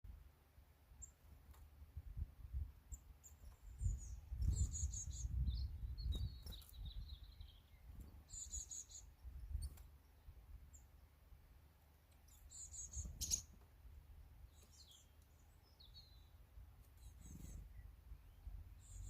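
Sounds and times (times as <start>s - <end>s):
songbirds chirping: 0.1s - 19.0s.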